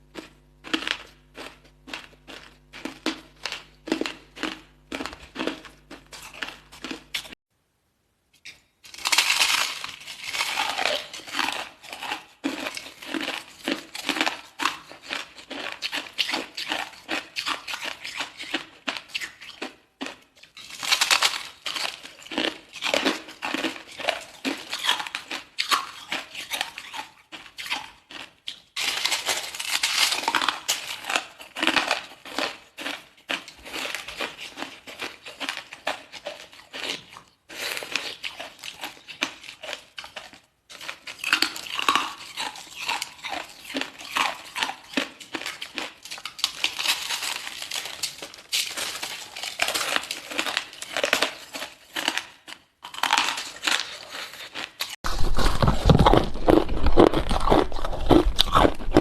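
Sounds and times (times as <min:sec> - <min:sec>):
ice crunching while chewed: 0:00.0 - 0:07.4, 0:08.4 - 0:59.0.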